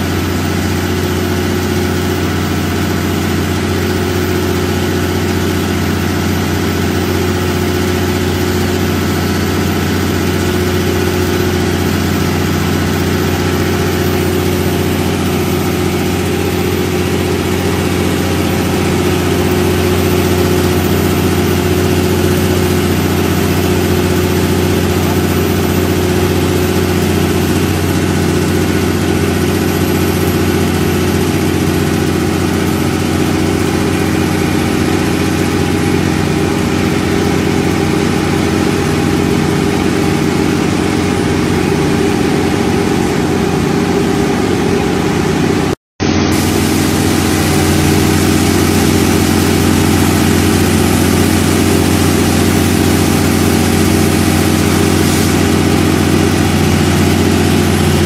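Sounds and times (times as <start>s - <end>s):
diesel generator engine droning: 0.0s - 58.0s.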